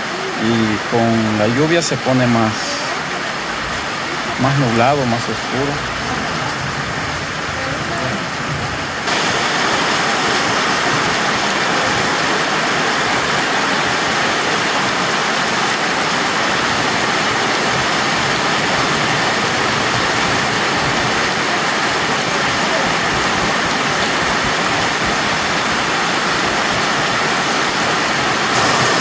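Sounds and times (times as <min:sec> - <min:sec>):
heavy rain on a paved street: 0:00.0 - 0:29.0
running water: 0:00.0 - 0:29.0.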